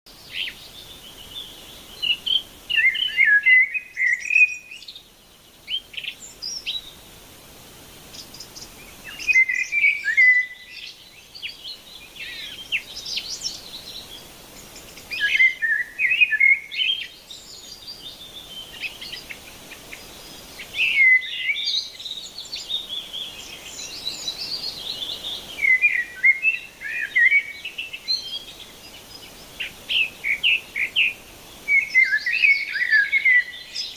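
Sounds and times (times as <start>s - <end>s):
faint background hiss: 0.1s - 33.9s
songbirds chirping and warbling: 0.1s - 33.9s.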